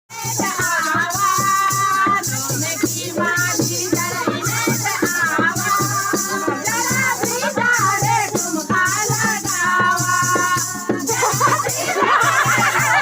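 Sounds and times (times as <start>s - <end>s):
shaker rattle: 0.1s - 13.0s.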